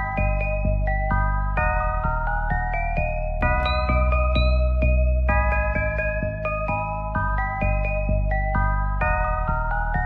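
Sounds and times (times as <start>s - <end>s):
deep bass: 0.0s - 10.0s.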